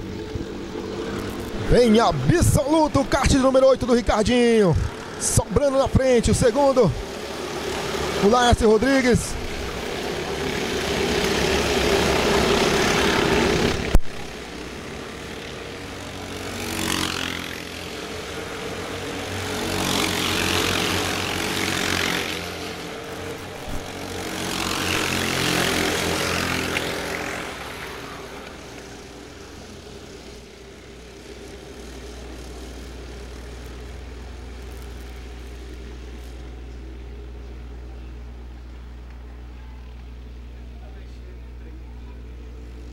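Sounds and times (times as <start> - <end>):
go-kart engines buzzing: 0.0 - 42.9.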